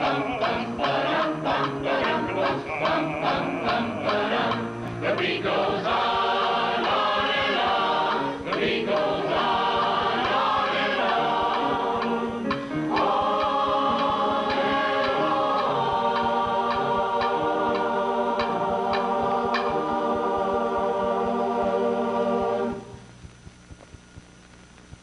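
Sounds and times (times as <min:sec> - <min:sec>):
choir singing: 0:00.0 - 0:22.9.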